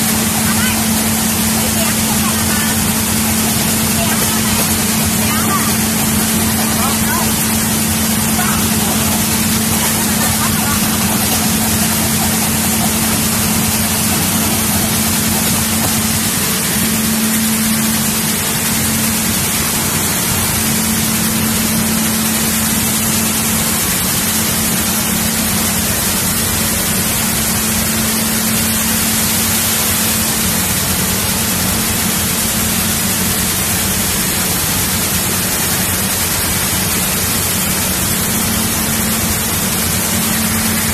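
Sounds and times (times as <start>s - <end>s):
grain cleaning machines rushing: 0.0s - 40.9s.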